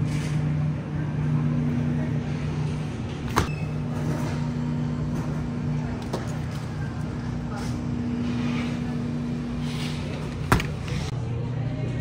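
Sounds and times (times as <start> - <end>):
refrigerated case humming: 0.0 - 12.0.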